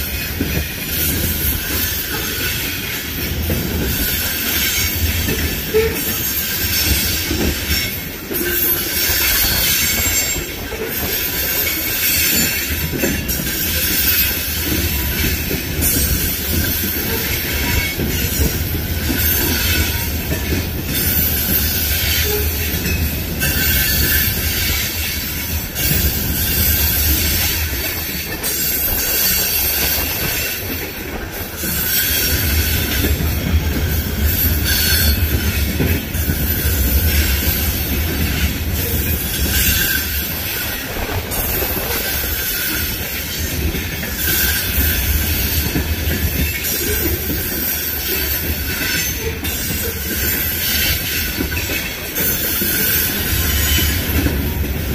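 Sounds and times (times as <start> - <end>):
steel wheels squealing on rails: 0.0 - 54.9
train deep rumble: 0.0 - 54.9.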